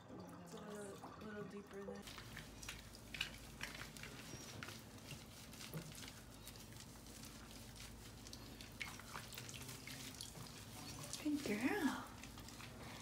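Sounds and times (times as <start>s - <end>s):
water dripping and splashing: 0.0s - 13.0s.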